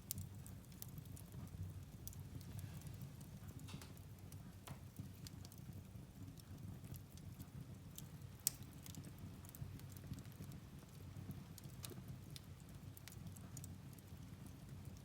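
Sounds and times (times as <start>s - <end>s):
fire crackling: 0.0s - 15.0s
fire rumbling: 0.0s - 15.0s.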